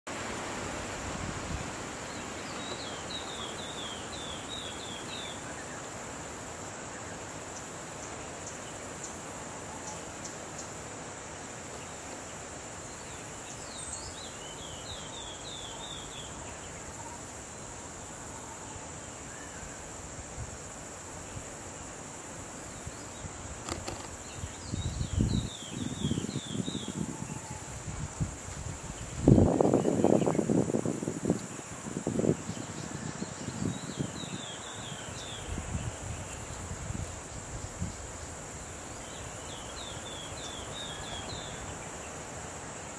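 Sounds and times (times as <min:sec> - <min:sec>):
wind hiss on microphone: 0:00.1 - 0:42.9
high insect drone: 0:00.2 - 0:42.9.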